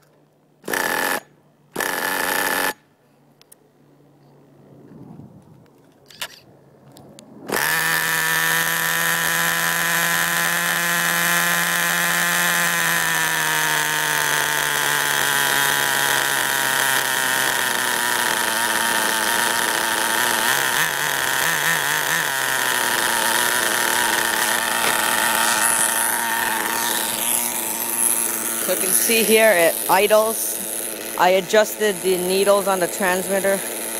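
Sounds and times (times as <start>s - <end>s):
small engine idling: 0.0s - 2.8s, 7.5s - 33.9s.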